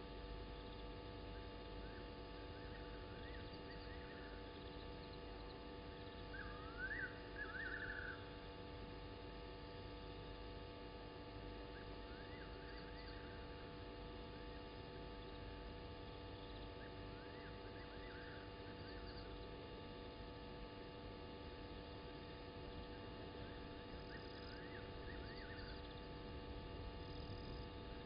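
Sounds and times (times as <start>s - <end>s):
steady hum of fixed tones: 0.0s - 28.0s.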